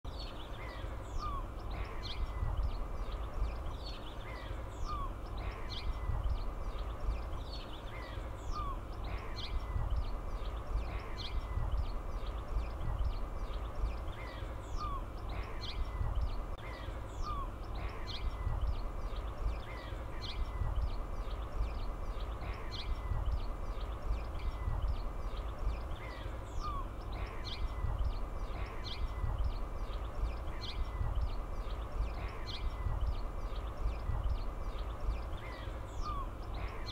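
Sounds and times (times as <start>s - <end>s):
low wind rumble: 0.0s - 36.9s
birds chirping and singing: 0.1s - 36.9s.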